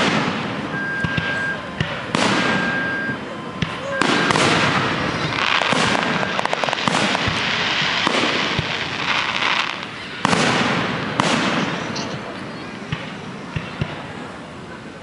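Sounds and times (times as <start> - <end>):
fireworks crackling hiss: 0.0 - 14.5
fireworks bursts: 0.0 - 14.6.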